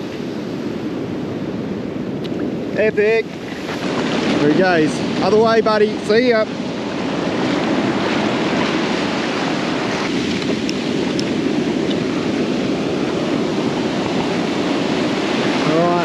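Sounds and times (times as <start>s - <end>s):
ocean waves breaking on sand: 0.0s - 16.0s.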